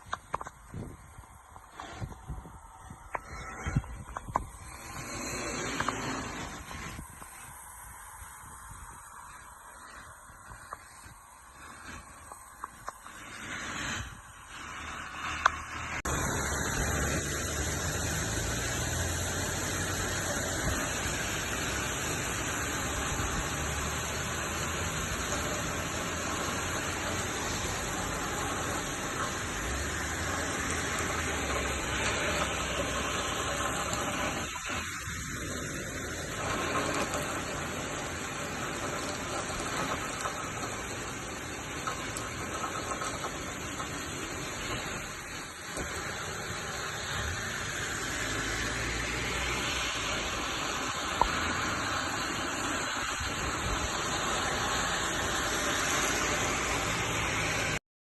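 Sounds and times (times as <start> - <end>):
heavy rain: 0.0 - 57.8
strong gusting wind: 0.0 - 57.8.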